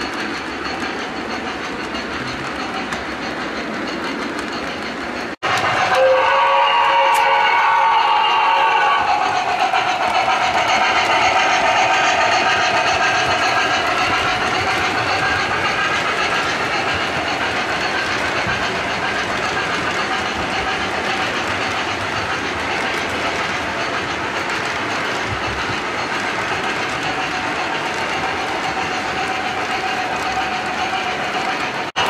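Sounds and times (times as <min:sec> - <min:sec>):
model train wheels clattering: 0:00.0 - 0:32.0.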